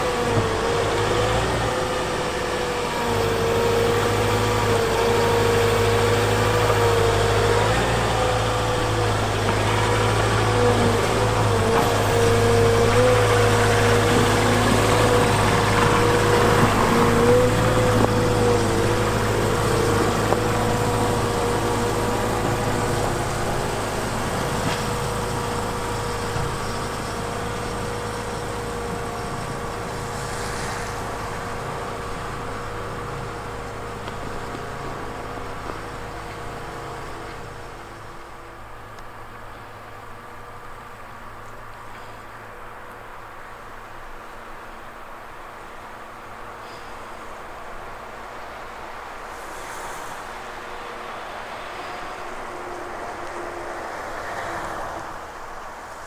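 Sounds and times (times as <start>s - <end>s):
rotary snow broom: 0.0s - 38.3s, 49.0s - 56.0s
diesel engine running with whine: 0.0s - 56.0s.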